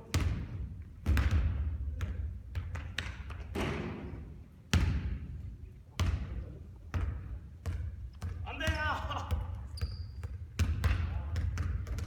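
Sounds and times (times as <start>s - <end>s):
basketball bouncing on court floor: 0.0s - 5.3s, 6.0s - 12.0s.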